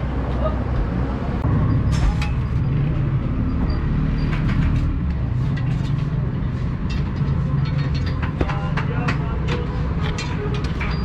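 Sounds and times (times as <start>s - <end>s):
large vehicle engine rumbling: 0.0s - 11.0s
street traffic: 0.0s - 11.0s.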